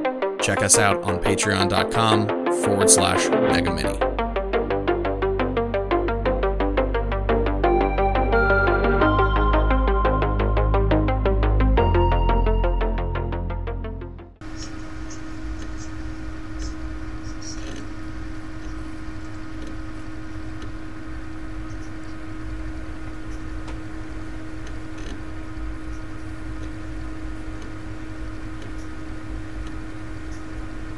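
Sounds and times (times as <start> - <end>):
electrical hum: 0.0 - 30.9.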